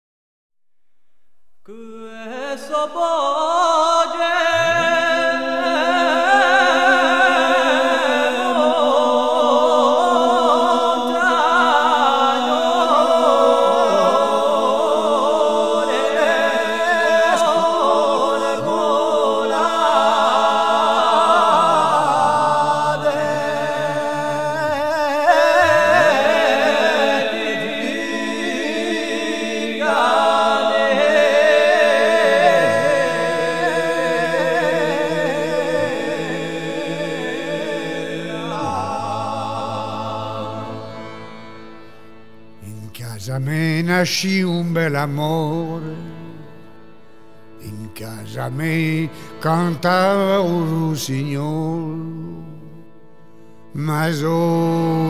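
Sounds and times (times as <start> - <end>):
a cappella voices singing harmony: 1.7 - 41.6, 42.6 - 46.8, 47.6 - 52.9, 53.7 - 55.0.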